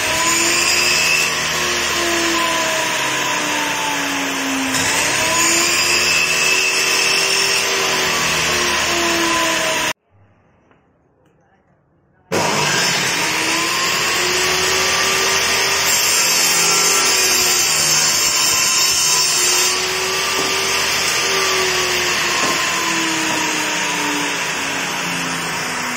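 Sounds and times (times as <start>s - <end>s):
saw blade cutting board: 0.0s - 10.0s, 12.3s - 25.9s
table saw running: 0.0s - 10.0s, 12.3s - 25.9s.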